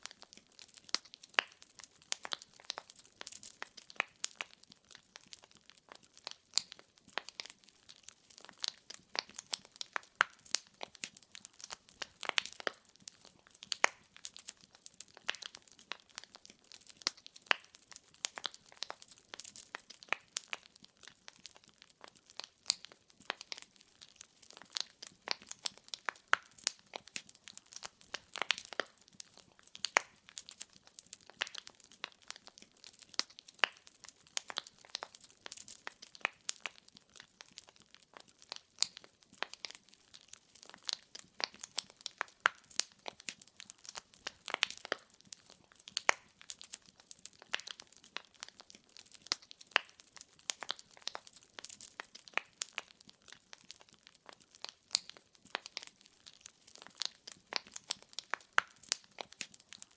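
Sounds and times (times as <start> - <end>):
firewood crackling and popping: 0.0 - 59.9.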